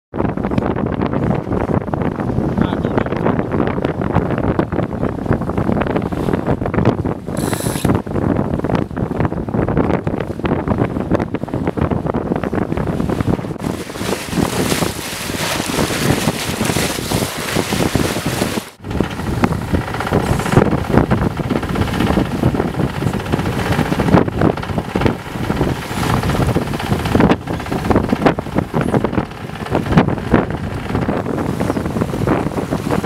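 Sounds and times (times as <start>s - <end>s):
wind buffeting microphone: 0.1s - 33.0s
water rushing along hull: 0.2s - 33.0s.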